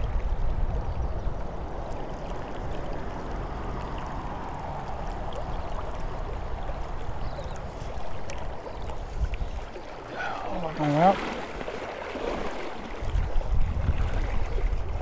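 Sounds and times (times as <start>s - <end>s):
river water rushing: 1.5s - 15.0s.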